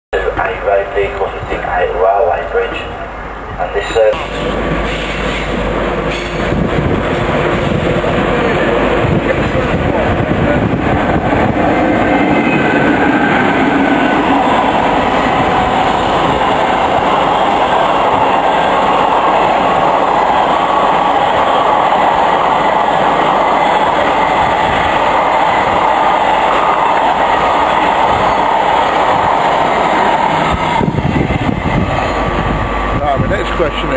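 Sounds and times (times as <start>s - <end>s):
freight train wagons rattling past: 0.2s - 33.9s.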